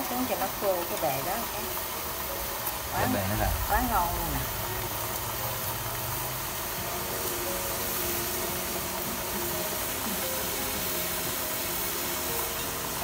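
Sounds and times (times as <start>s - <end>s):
faint music: 0.0s - 13.0s
fish frying in oil: 0.0s - 13.0s.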